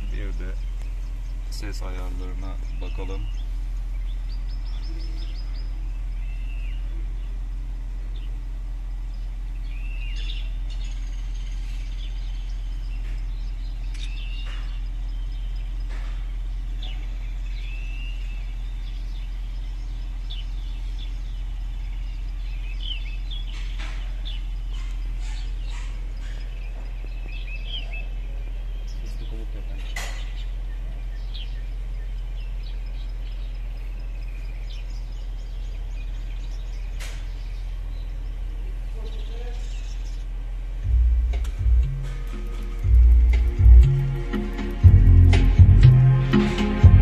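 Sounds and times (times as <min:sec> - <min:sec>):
birds chirping through speakers: 0:00.0 - 0:47.0
steady low hum: 0:00.0 - 0:47.0.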